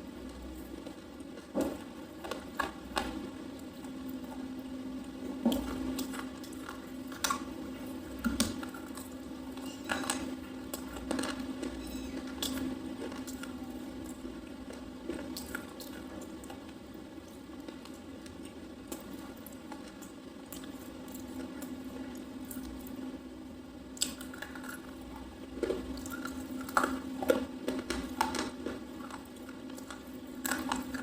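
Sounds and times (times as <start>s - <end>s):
steady low hum: 0.0s - 31.0s
person chewing crunchy pencil: 0.1s - 23.0s, 23.9s - 31.0s.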